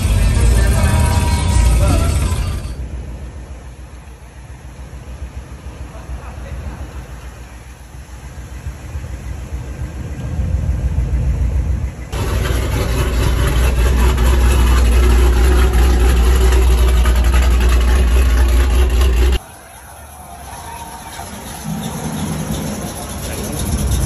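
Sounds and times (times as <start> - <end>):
engine exhaust rumble: 0.0 - 24.0.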